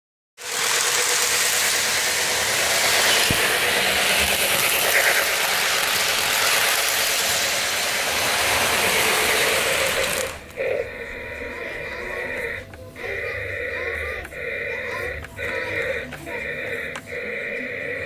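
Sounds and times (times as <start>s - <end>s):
model train wheels rattling: 0.4s - 17.2s
motor hum: 0.4s - 18.0s.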